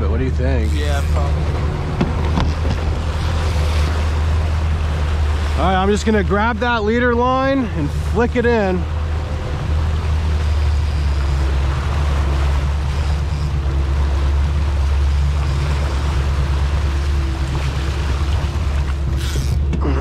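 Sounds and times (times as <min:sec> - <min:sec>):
boat engine droning: 0:00.0 - 0:20.0
wake rushing and splashing: 0:00.5 - 0:20.0.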